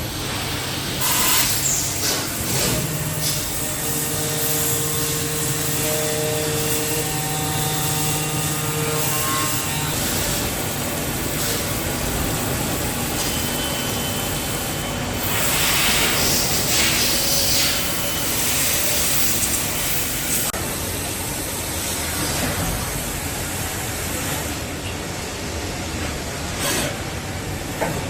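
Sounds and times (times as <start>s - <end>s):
machine running noise: 0.0s - 28.0s.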